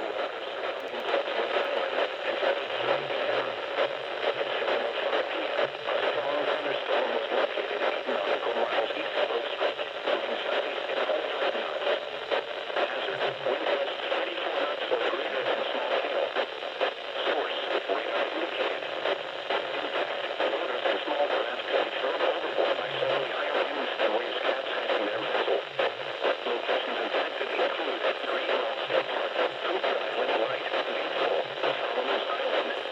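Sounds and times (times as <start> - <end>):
radio static hiss: 0.0 - 32.9.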